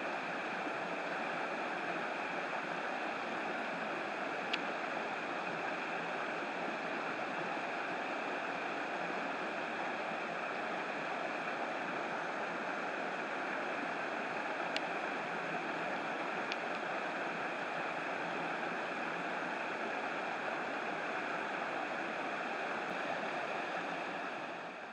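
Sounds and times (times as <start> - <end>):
flowing water: 0.0 - 24.9
rain on a river: 0.0 - 24.9.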